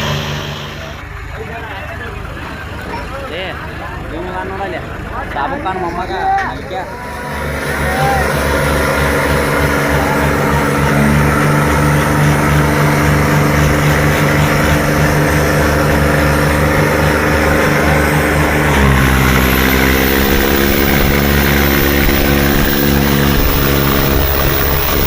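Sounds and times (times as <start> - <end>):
tractor diesel engines droning: 0.0 - 25.0.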